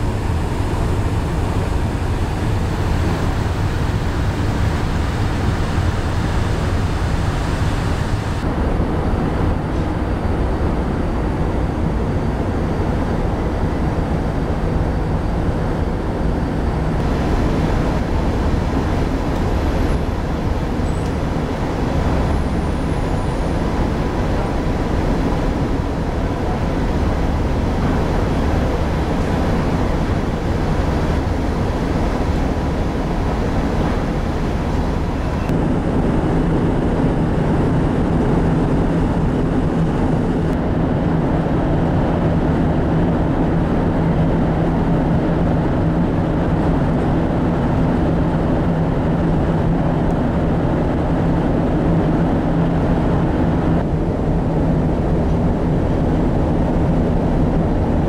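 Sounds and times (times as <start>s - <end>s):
ferry engines droning: 0.0s - 58.0s
wash of noise: 0.0s - 58.0s.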